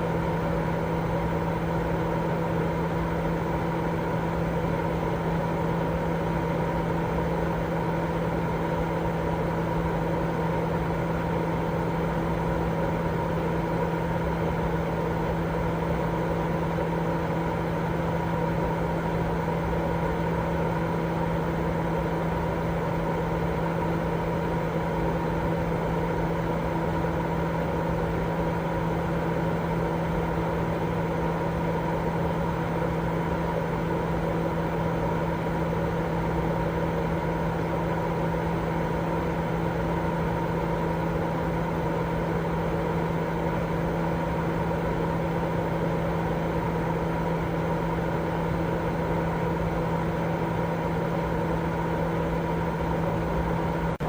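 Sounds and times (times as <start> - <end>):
white noise machine whir: 0.0 - 54.0.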